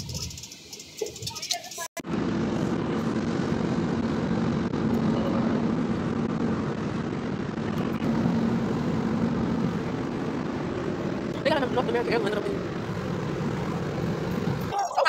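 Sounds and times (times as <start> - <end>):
car road and wind noise: 0.0 - 14.8
low hum: 2.0 - 14.8.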